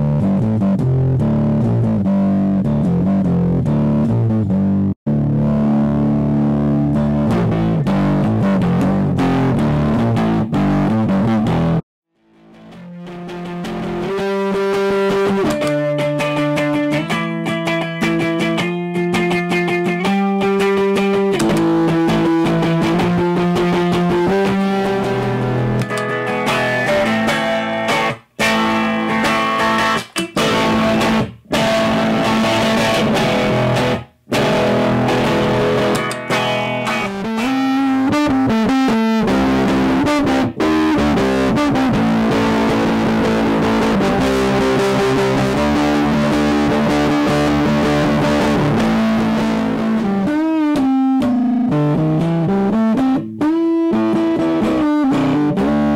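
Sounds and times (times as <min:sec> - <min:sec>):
overdriven electric guitar: 0:00.0 - 0:55.9.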